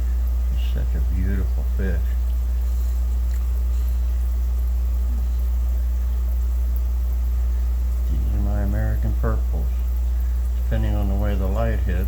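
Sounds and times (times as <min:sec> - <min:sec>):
low-pitched hum: 0:00.0 - 0:12.0.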